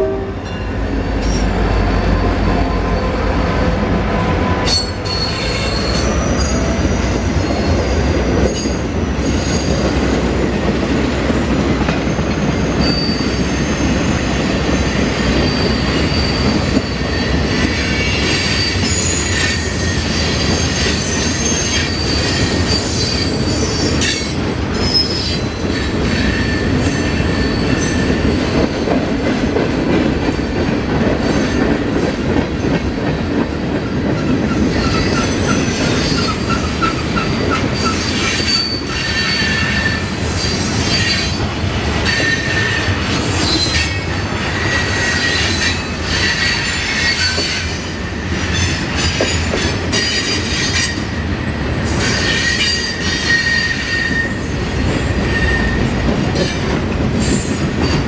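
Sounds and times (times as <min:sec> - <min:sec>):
freight train wheels rumbling: 0:00.0 - 0:58.0
high wheel squeal: 0:00.7 - 0:03.6, 0:04.4 - 0:10.1, 0:12.0 - 0:28.6, 0:34.5 - 0:56.0.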